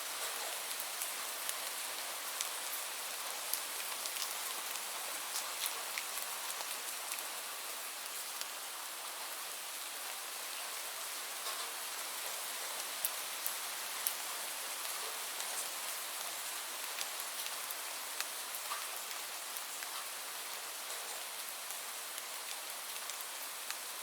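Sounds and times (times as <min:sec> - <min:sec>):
raindrops ticking on a surface: 0:00.1 - 0:24.0.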